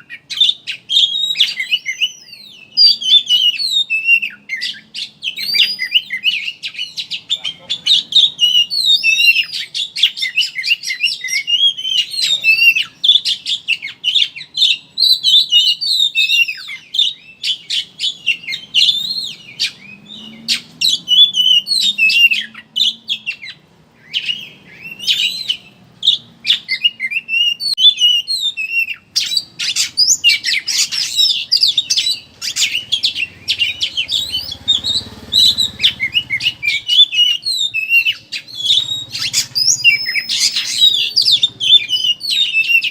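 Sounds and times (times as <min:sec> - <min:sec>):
magpie-robin singing chattering twitter: 0:00.0 - 0:42.9.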